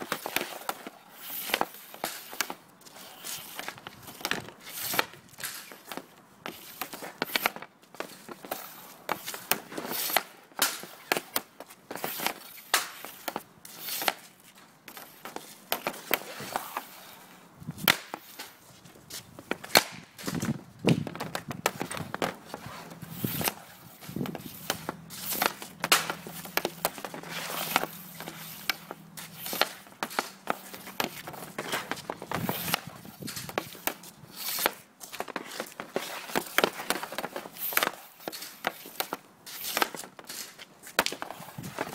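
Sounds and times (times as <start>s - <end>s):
hockey sticks hitting pucks: 0.0s - 41.9s.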